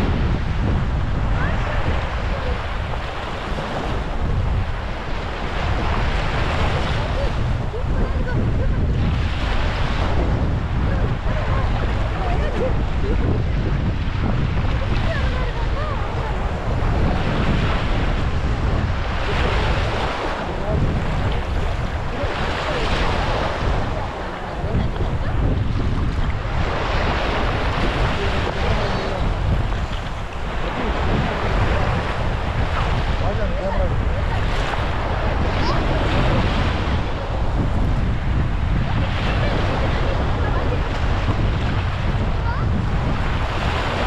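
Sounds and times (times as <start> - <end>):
small waves breaking on sand: 0.0 - 44.0
wind buffeting microphone: 0.0 - 44.0.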